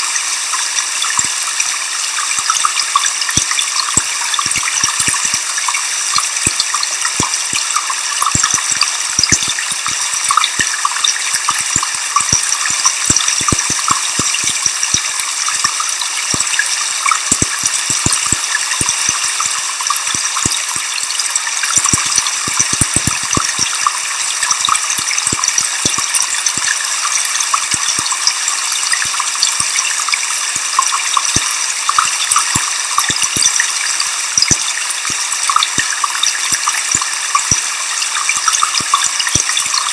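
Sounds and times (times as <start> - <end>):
small clicks: 0.2 - 39.9.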